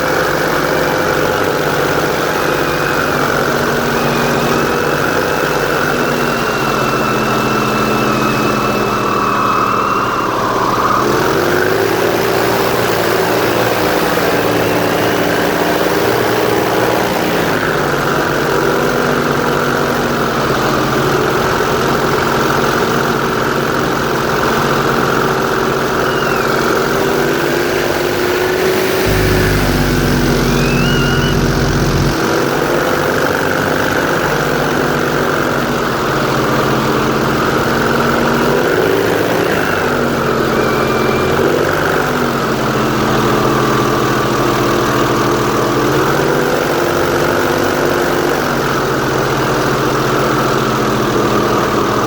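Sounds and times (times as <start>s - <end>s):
airboat engine and propeller: 0.0s - 52.0s.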